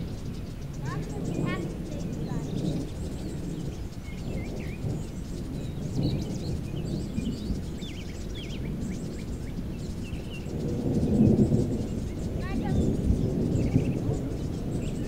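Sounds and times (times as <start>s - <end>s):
birds chirping: 0.0s - 15.0s
steady low rumbling noise: 0.0s - 15.0s.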